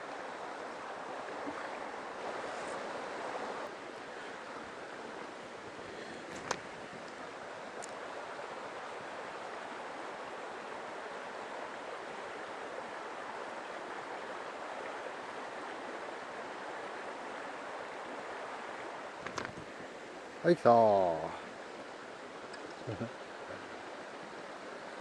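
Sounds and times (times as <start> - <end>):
stream water flowing: 0.0 - 25.0.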